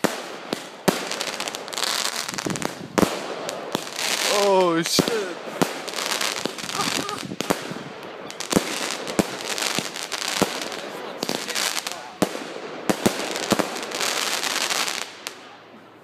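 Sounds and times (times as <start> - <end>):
firework hissing crackle: 0.0 - 15.4
firework sharp cracks: 0.0 - 15.6.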